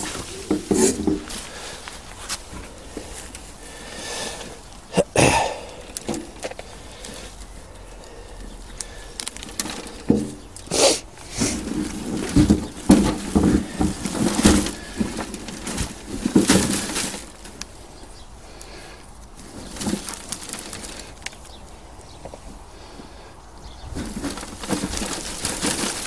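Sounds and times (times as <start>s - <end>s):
hands rummaging through compost: 0.0s - 26.0s.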